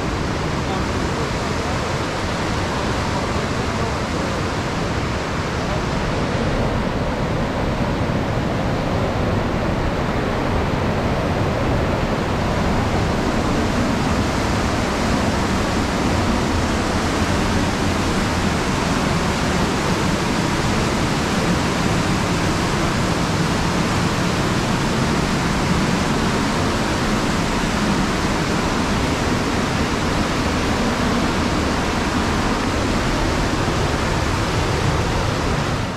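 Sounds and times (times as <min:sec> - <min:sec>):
river rushing over rocks: 0:00.0 - 0:35.9.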